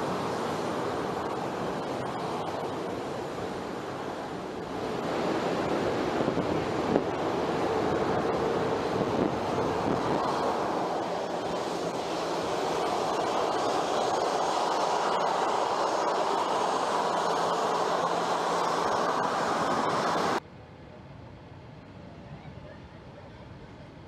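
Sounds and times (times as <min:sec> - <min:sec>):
jet engines roaring: 0:00.0 - 0:20.4.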